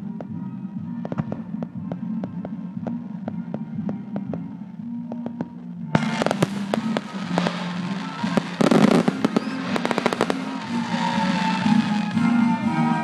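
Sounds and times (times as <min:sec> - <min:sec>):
music playing: 0:00.0 - 0:13.0
fireworks bangs and crackles: 0:01.0 - 0:04.5, 0:05.1 - 0:12.6.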